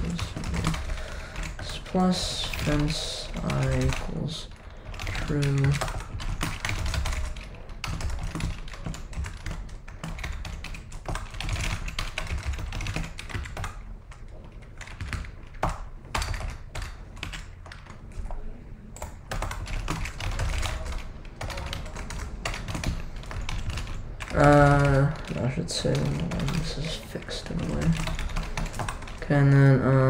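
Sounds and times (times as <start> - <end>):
typing on computer keyboard: 0.0 - 29.6.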